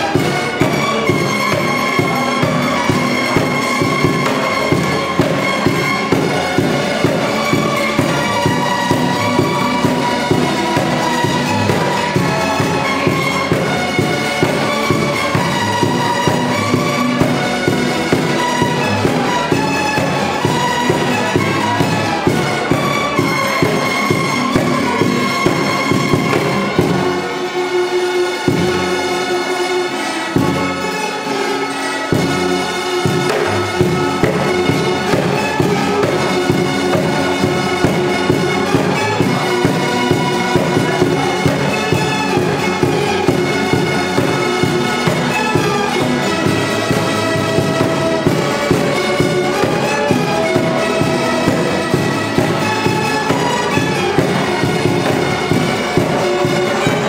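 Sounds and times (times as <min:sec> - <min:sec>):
acoustic guitars: 0:00.0 - 0:57.0
mandolin-type strings melody: 0:00.0 - 0:57.0
upright double bass: 0:00.0 - 0:57.0.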